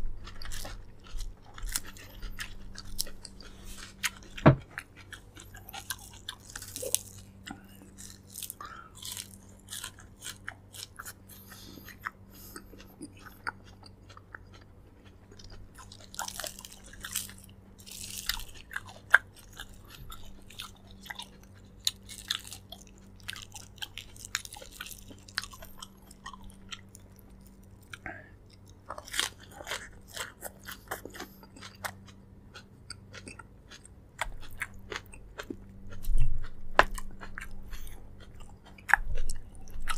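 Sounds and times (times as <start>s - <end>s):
faint low hum: 0.0s - 39.9s
crunching: 0.2s - 39.9s
wet chewing and lip smacks: 0.2s - 39.9s.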